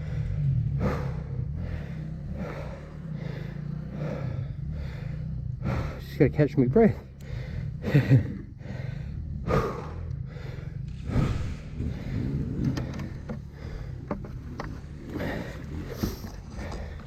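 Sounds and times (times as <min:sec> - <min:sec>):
dirt bike engine idling: 0:00.0 - 0:17.0
man panting: 0:00.0 - 0:17.0.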